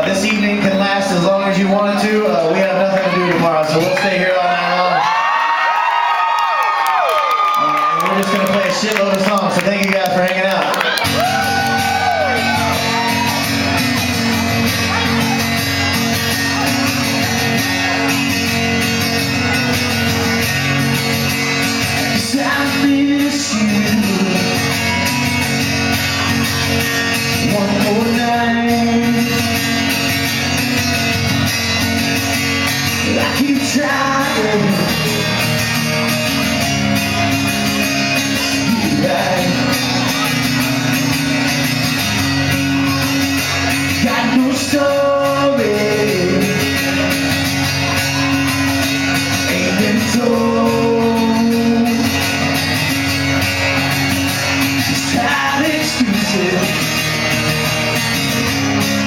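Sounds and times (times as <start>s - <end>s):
people singing and shouting: 0.0s - 5.9s, 9.7s - 59.0s
live band music: 8.0s - 59.0s.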